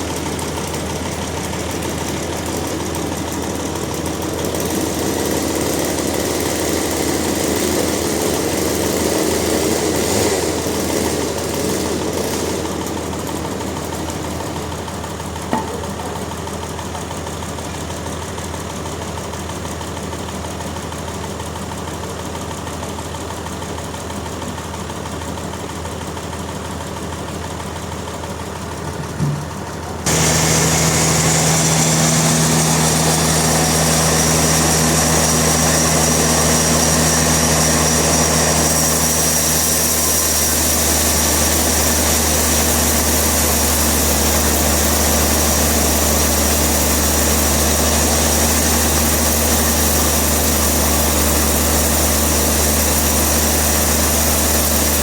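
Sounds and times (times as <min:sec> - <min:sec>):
sawmill machinery humming: 0:00.0 - 0:22.8, 0:23.4 - 0:55.0.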